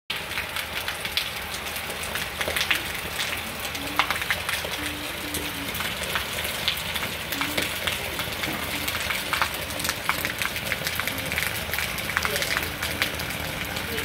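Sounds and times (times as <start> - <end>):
heavy rain falling: 0.1 - 14.0.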